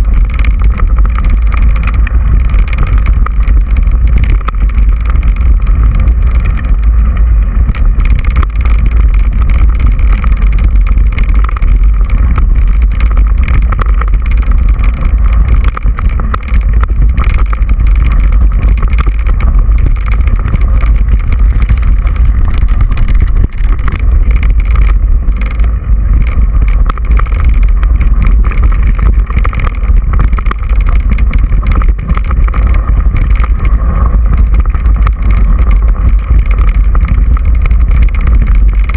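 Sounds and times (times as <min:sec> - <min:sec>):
wind buffeting camera: 0:00.0 - 0:38.9.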